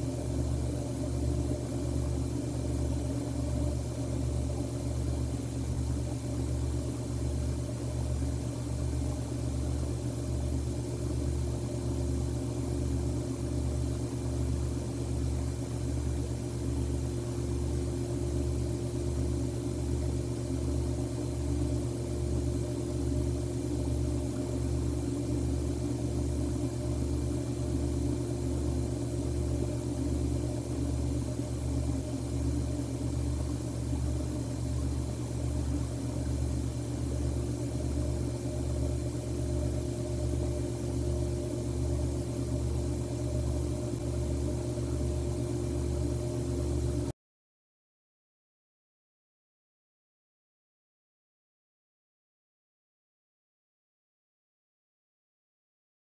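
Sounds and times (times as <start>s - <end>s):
low throbbing mechanical hum: 0.0s - 47.1s.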